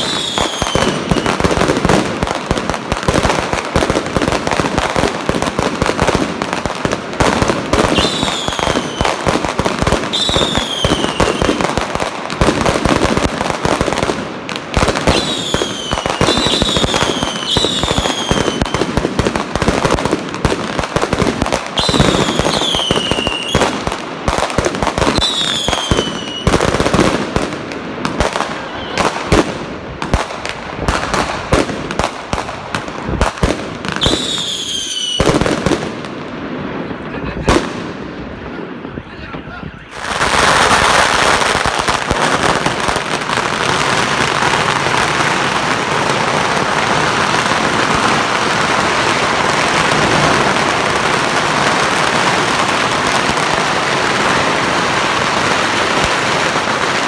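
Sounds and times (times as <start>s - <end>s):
firecrackers crackling: 0.0s - 57.0s
fireworks going off: 0.0s - 57.0s.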